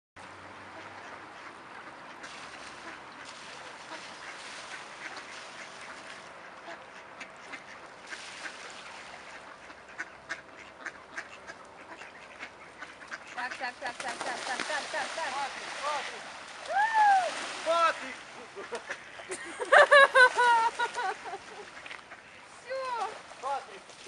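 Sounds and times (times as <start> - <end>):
ducks quacking: 0.7 - 16.2, 17.7 - 22.5.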